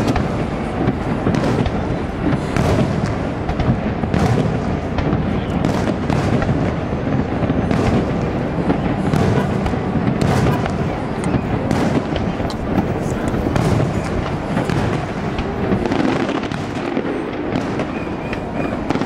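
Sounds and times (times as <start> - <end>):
fireworks booming and crackling: 0.0 - 19.0.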